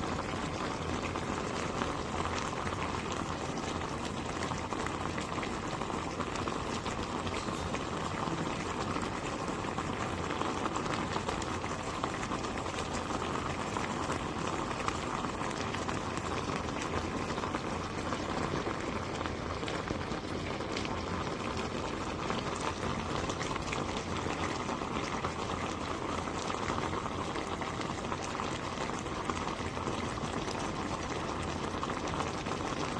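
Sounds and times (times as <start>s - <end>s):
stew bubbling at a boil: 0.0s - 32.9s.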